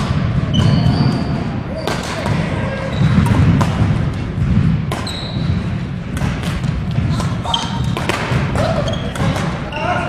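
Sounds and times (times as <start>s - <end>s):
racket hitting shuttlecock: 0.0s - 9.7s
low hall rumble: 0.0s - 10.0s
shoes squeaking on wooden court: 0.1s - 10.0s.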